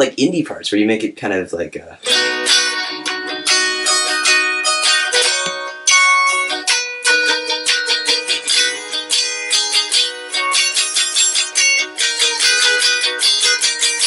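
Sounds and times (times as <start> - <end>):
clean electric guitar playing: 2.0 - 14.0.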